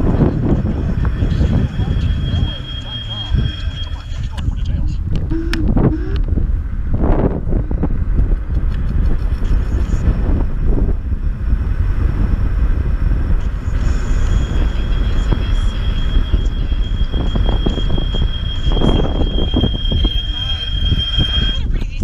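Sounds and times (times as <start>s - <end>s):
thin high whine: 0.0s - 6.5s, 9.2s - 22.0s
road noise: 0.0s - 22.0s
wind buffeting microphone: 0.0s - 22.0s.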